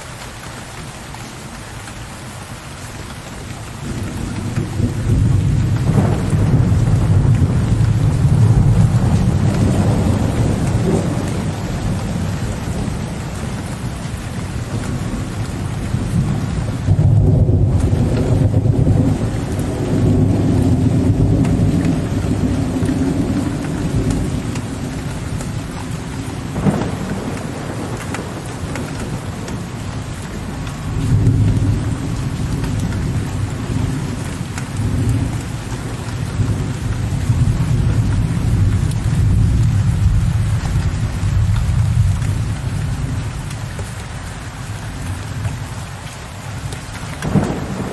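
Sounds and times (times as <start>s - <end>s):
steady rain: 0.0s - 47.9s
low thunder rolling: 3.8s - 43.5s, 47.2s - 47.9s.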